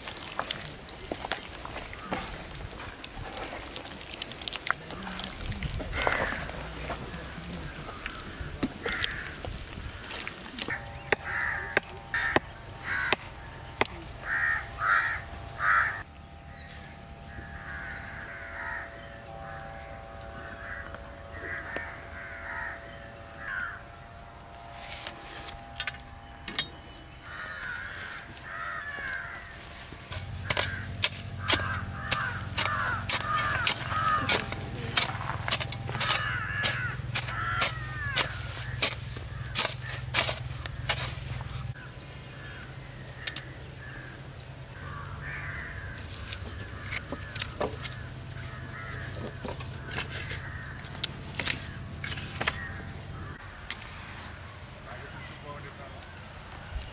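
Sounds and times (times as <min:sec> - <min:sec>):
crows cawing: 0:01.2 - 0:16.1, 0:16.7 - 0:25.8, 0:27.2 - 0:54.2.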